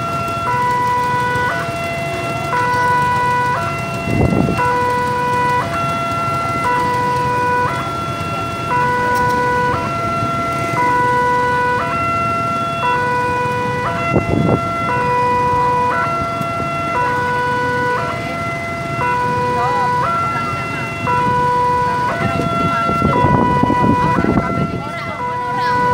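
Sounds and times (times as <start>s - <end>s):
railroad crossing two-tone chime: 0.0s - 25.9s
road traffic noise: 0.0s - 25.9s.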